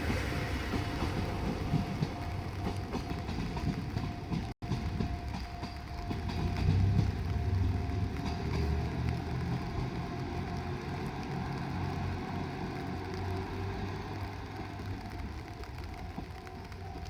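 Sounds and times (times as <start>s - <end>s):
train engine and wheel rumble: 0.0s - 17.0s.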